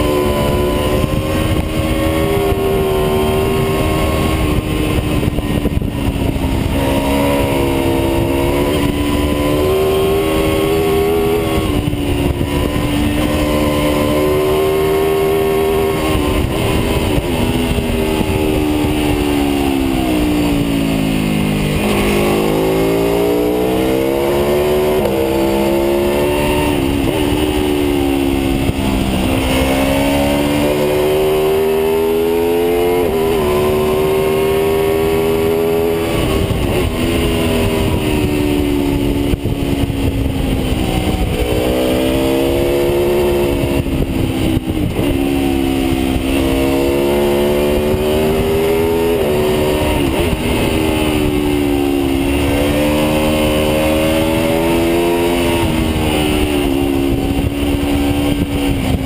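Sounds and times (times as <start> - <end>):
motorcycle engine running hard: 0.0 - 59.0
wind rush: 0.0 - 59.0.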